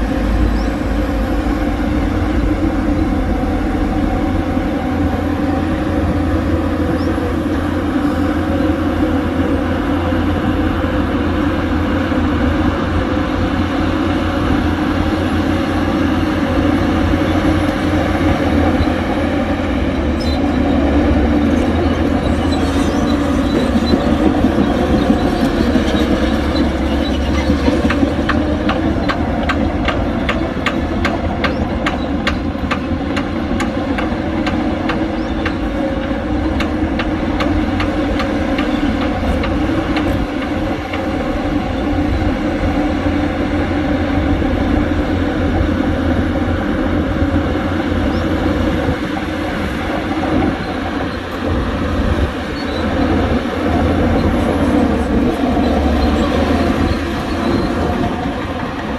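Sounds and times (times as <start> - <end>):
diesel machinery engine drone: 0.0 - 58.9.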